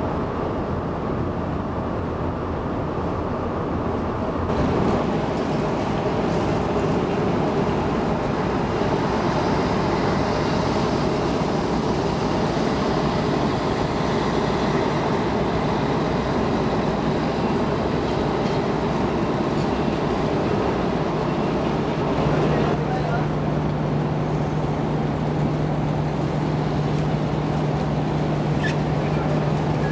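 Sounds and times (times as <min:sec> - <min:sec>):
ship engines rumbling: 0:00.0 - 0:29.9.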